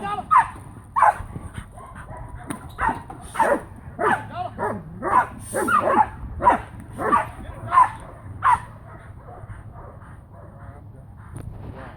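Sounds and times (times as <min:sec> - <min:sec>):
dog barking: 0:00.3 - 0:01.2, 0:01.8 - 0:10.6.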